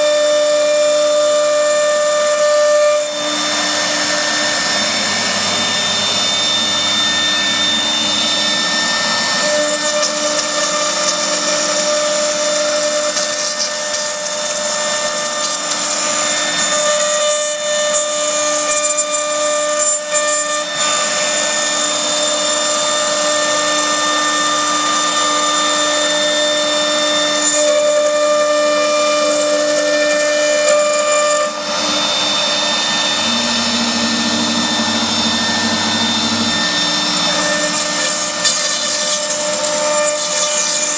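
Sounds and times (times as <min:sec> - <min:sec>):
router spindle high whine: 0:00.0 - 0:40.9
hissing cutting noise: 0:03.4 - 0:27.5, 0:29.2 - 0:40.9.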